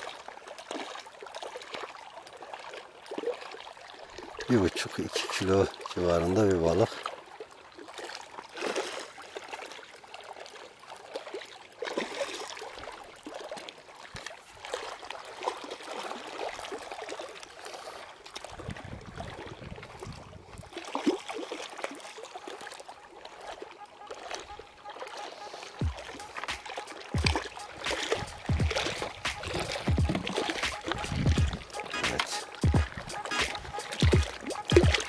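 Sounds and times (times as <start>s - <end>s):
shallow water trickling and splashing: 0.0s - 35.0s.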